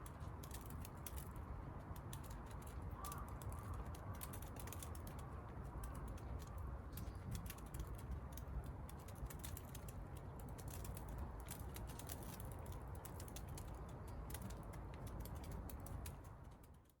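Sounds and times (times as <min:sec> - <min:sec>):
low steady fire rumble: 0:00.0 - 0:17.0.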